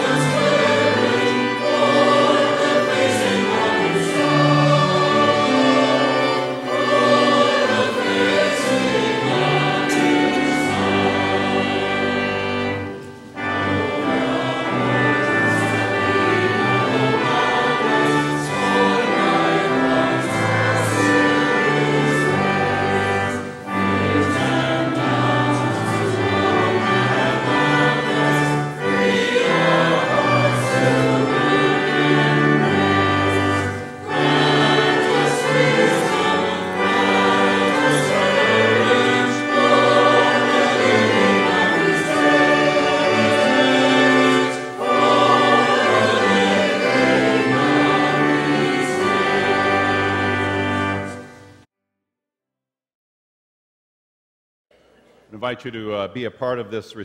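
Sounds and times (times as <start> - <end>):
choir singing a hymn: 0.0 - 51.7
church organ: 0.0 - 51.7.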